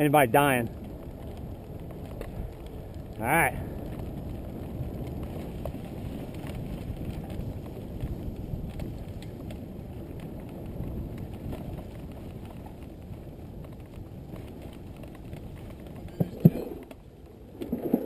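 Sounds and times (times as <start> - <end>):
bike clicks and rattles: 0.0 - 17.5
bike tyres on dirt: 0.0 - 18.0
wind on microphone: 0.0 - 18.0.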